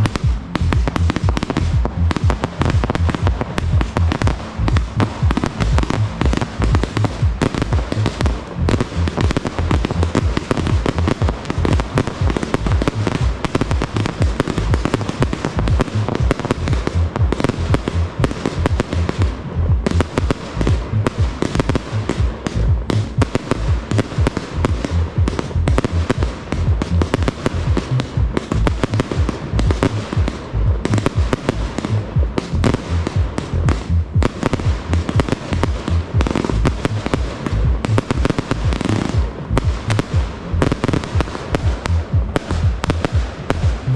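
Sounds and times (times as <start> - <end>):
deep boom: 0.0 - 43.9
fireworks bursting: 0.0 - 43.9.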